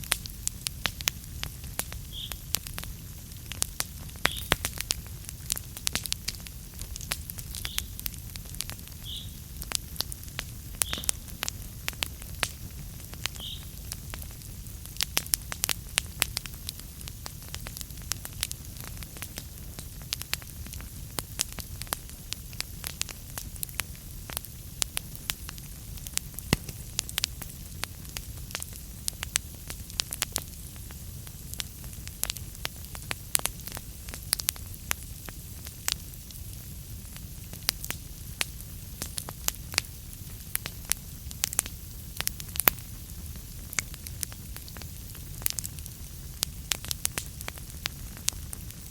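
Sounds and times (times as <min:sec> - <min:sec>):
logs crackling and popping: 0:00.0 - 0:48.9
low rumble of flames: 0:00.0 - 0:48.9.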